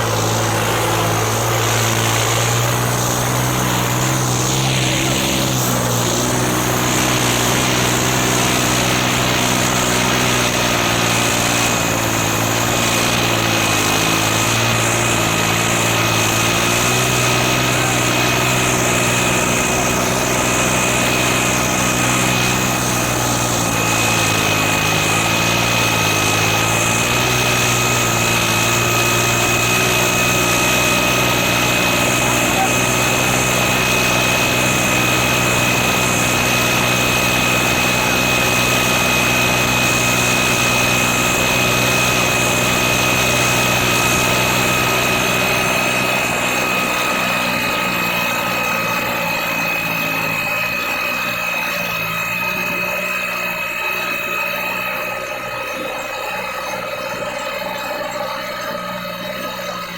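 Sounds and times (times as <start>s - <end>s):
thin high whine: 0.0s - 59.9s
tractor diesel engine under load: 0.0s - 59.9s.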